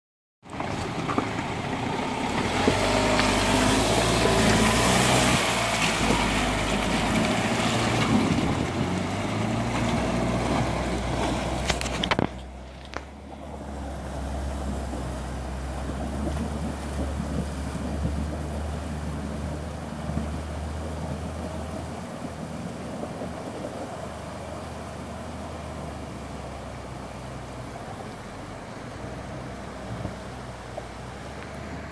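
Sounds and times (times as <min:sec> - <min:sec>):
off-road vehicle engine running: 0:00.4 - 0:31.9
water splashing around wheels: 0:00.4 - 0:31.9.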